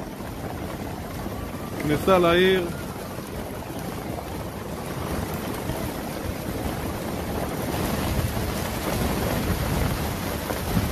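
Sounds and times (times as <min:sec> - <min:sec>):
floodwater rushing: 0:00.0 - 0:10.9
wind buffeting microphone: 0:00.0 - 0:10.9.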